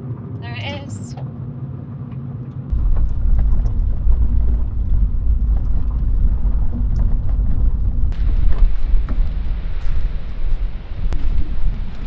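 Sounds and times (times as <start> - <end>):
car engine hum: 0.0 - 12.0
heavy low rumble: 0.0 - 12.0
road noise: 0.0 - 12.0.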